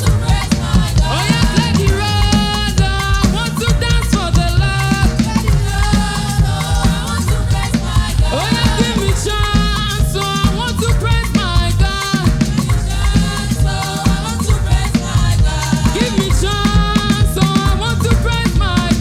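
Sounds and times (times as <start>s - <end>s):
bass: 0.0s - 19.0s
drums: 0.0s - 19.0s
voices singing: 0.0s - 19.0s.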